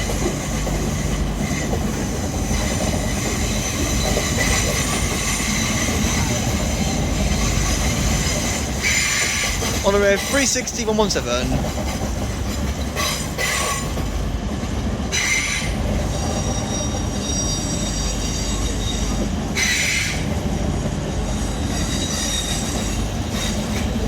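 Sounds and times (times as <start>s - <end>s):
train wheels squealing: 0.0s - 10.6s, 11.8s - 14.2s, 15.1s - 24.0s
train rumble: 0.0s - 24.0s.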